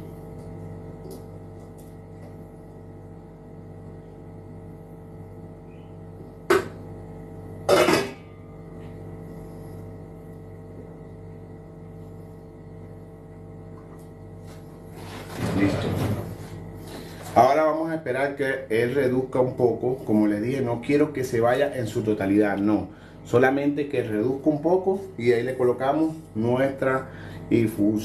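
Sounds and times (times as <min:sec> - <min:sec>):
steady tonal hum: 0:02.5 - 0:28.0.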